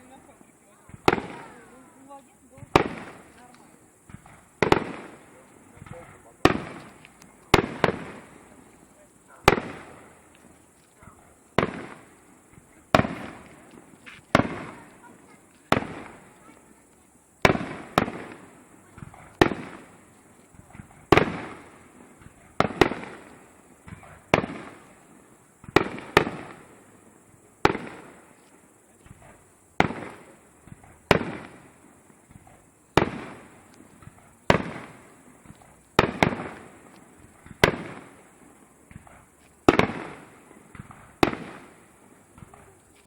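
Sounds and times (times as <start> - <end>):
fireworks shells bursting: 0.9 - 43.0.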